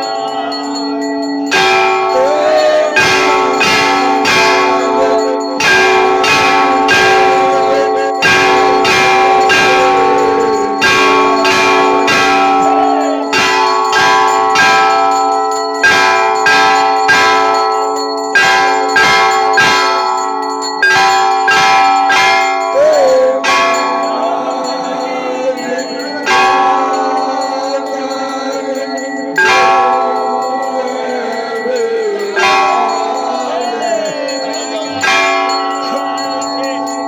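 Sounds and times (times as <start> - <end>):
large bells struck and ringing: 0.0 - 37.0.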